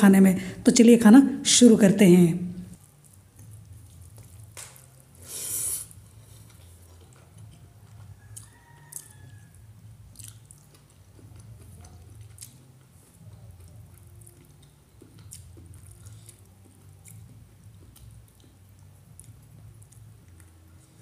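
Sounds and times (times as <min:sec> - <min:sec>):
low steady hum: 0:00.0 - 0:08.5, 0:09.1 - 0:21.0.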